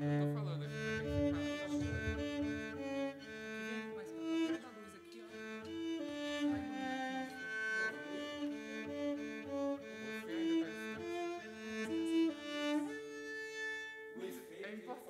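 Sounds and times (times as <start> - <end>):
bowed cello melody: 0.0 - 14.8.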